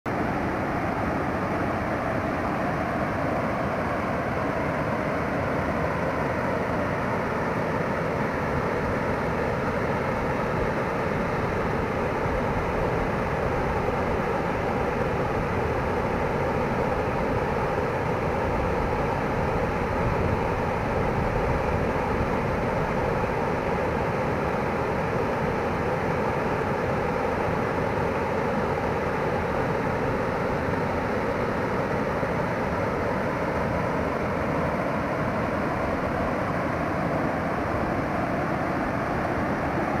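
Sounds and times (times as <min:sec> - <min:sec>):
water rushing over waterfall: 0:00.1 - 0:40.0.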